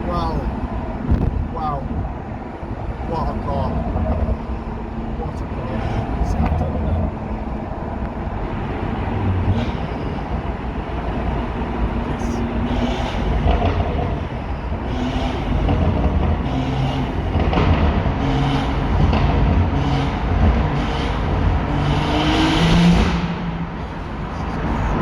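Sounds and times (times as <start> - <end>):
car engine from inside cabin: 0.0 - 25.0.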